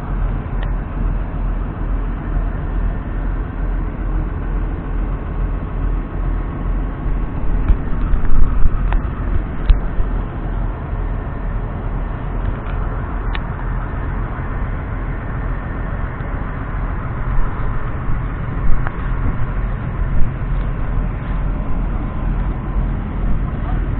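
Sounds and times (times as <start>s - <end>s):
tractor diesel engine running: 0.0s - 23.9s
engine knocks: 3.8s - 23.9s.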